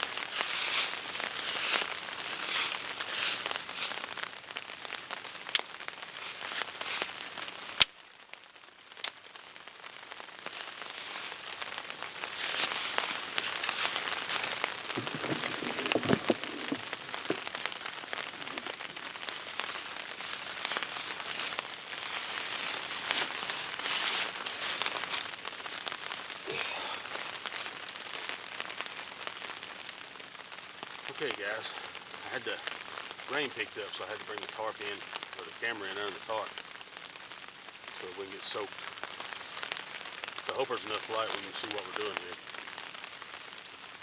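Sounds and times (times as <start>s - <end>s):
rain pattering in woodland: 0.0s - 44.0s.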